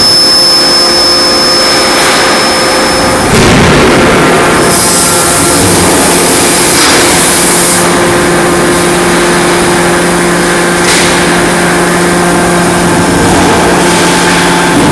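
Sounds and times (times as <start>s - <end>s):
workshop machinery hum and hiss: 0.0s - 14.9s.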